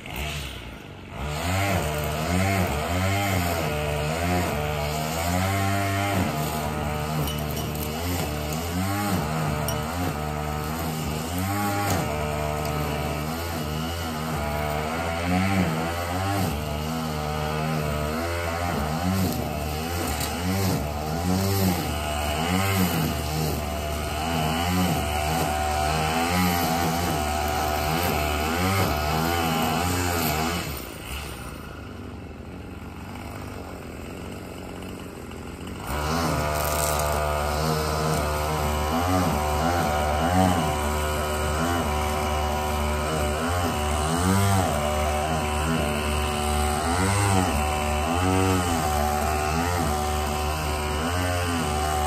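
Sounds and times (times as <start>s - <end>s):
string trimmer engine revving: 0.0s - 52.0s.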